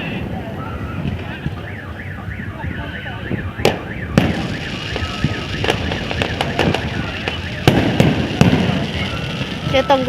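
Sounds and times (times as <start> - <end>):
car alarm warbling: 0.0 - 10.0
fireworks bangs: 0.0 - 10.0.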